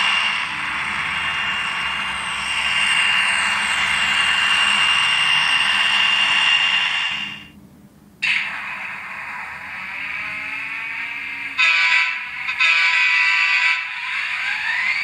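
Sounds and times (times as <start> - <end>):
model train motor whine: 0.0 - 7.5, 8.2 - 15.0
model train diesel engine sound: 0.0 - 15.0.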